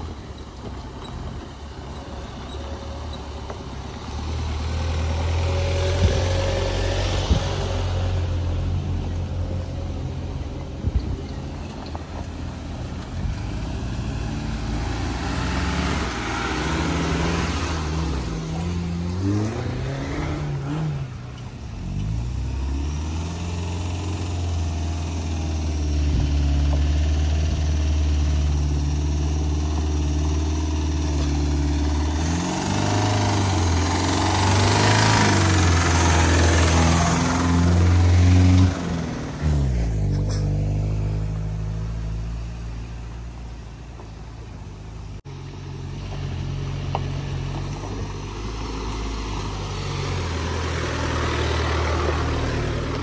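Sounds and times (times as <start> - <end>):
off-road vehicle engines revving: 0.0 - 53.0.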